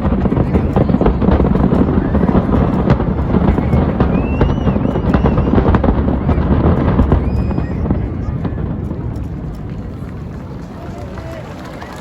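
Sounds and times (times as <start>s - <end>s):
fireworks crackling pops: 0.0s - 12.0s
high whistling fireworks: 0.0s - 12.0s
low rumble of fireworks booms: 0.0s - 12.0s.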